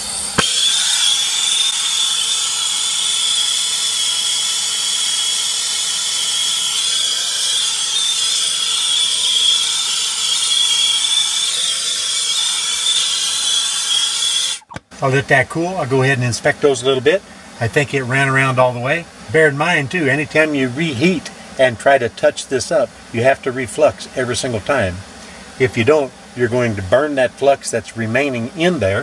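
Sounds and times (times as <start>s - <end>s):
torch flame hissing and whistling: 0.0s - 29.0s.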